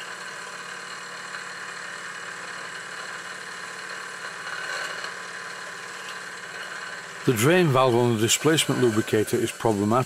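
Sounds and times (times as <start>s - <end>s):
model steam engine running: 0.0s - 10.0s.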